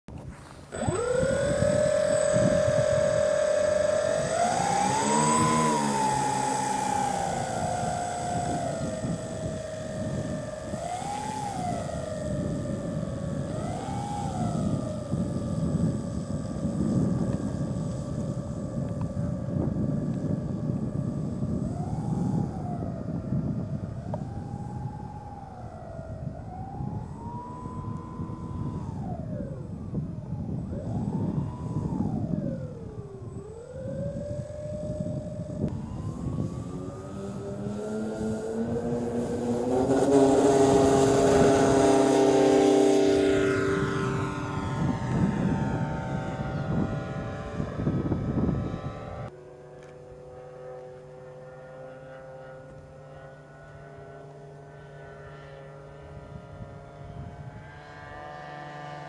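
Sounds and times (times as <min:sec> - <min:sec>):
model airplane motors whining: 0:00.2 - 0:59.0.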